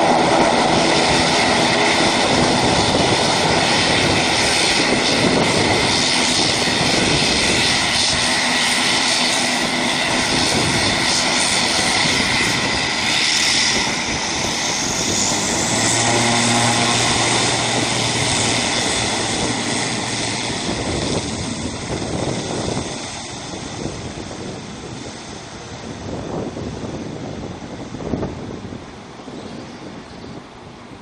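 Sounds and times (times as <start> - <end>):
engine whine rising: 0.0 - 28.2
turboprop engines droning: 0.0 - 31.0.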